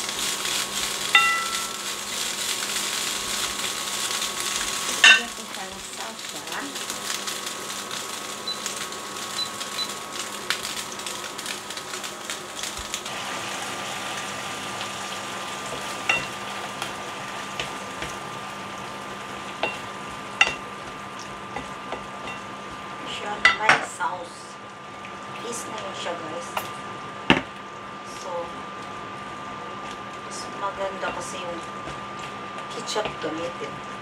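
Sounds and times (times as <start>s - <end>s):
fish sizzling in a frying pan: 0.0s - 34.0s
steady high tone hum: 0.8s - 2.3s, 3.0s - 34.0s.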